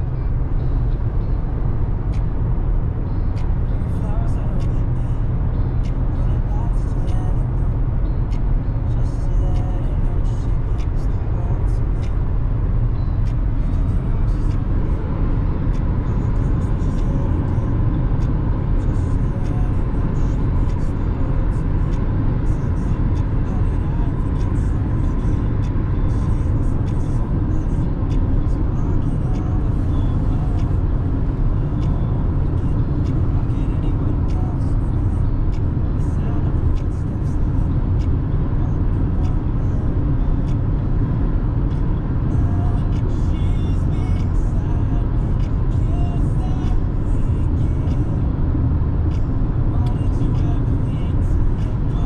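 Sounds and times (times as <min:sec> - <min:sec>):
engine hum: 0:00.0 - 0:52.0
tyre and road noise: 0:00.0 - 0:52.0.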